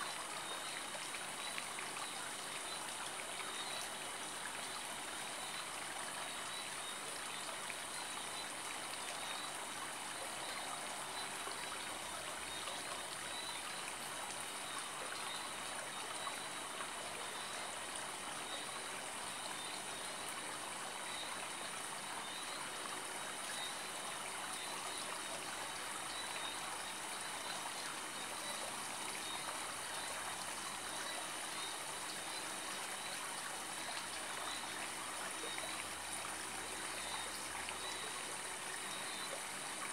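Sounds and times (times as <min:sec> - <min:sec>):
faint high-pitched whines: 0:00.0 - 0:39.9.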